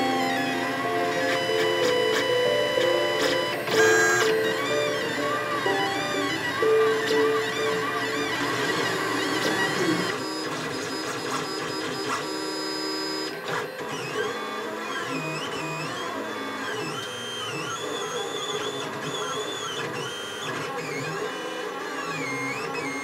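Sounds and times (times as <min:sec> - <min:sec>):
stepper motors whining: 0:00.0 - 0:23.0.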